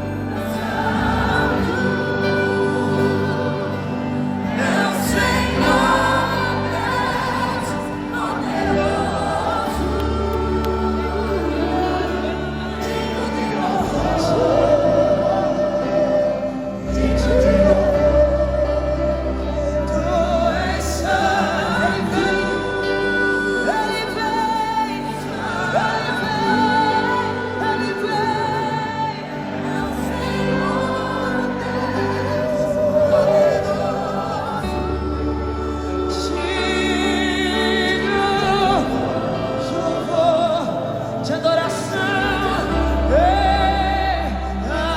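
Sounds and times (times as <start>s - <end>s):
band playing: 0.0s - 44.9s
woman singing gospel: 0.0s - 44.9s.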